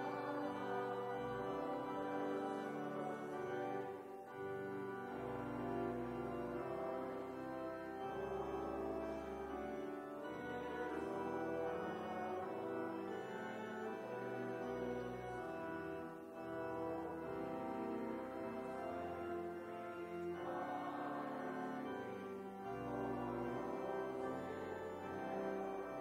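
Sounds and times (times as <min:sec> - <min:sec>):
slow instrumental music: 0:00.0 - 0:26.0.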